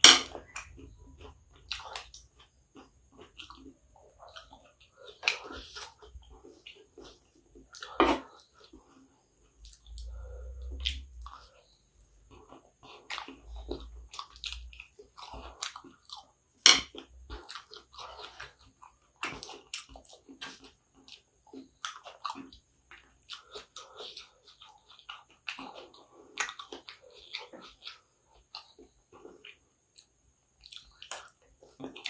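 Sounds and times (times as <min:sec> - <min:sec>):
wet chewing and crunching: 0:00.0 - 0:32.0.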